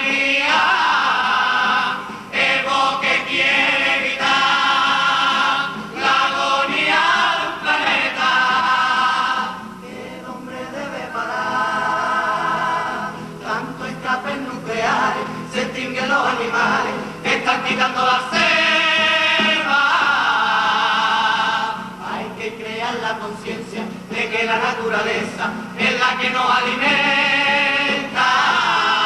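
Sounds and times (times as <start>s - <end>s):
chorus singing together: 0.0s - 29.0s
musical accompaniment: 0.0s - 29.0s.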